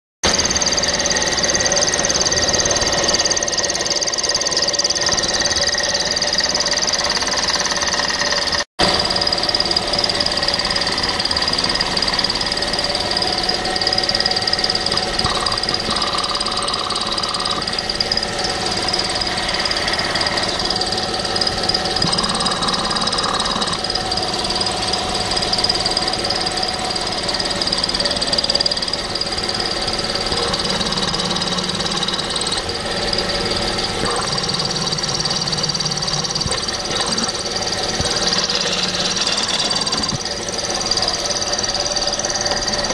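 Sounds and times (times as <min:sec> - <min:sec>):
engine running: 0:00.2 - 0:42.9
rapid knocking from fan pulley: 0:00.2 - 0:42.9.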